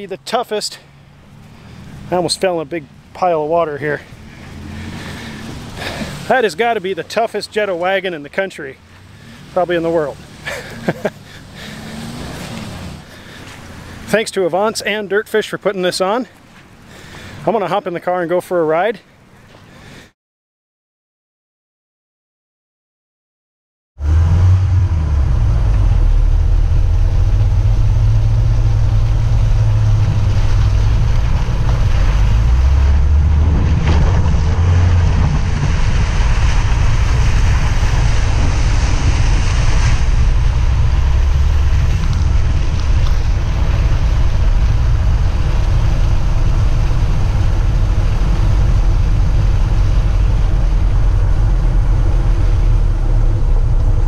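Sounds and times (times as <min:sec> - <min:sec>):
car engine deep drone: 0:00.0 - 0:14.7, 0:24.0 - 0:54.0
hissing road noise: 0:00.0 - 0:20.2, 0:24.0 - 0:54.0.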